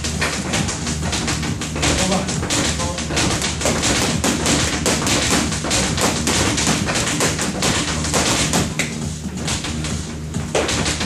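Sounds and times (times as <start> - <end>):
background music with bass line: 0.0 - 11.0
gloves smacking focus mitts: 0.0 - 11.0.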